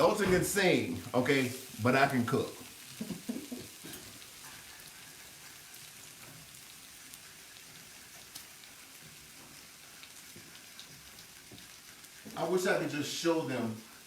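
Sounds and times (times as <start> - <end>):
food frying sizzle: 0.0 - 14.0
small crackles and pops: 0.0 - 14.0.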